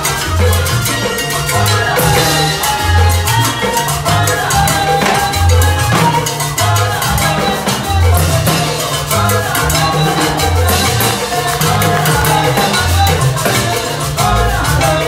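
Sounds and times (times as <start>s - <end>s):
salsa music: 0.0s - 15.0s.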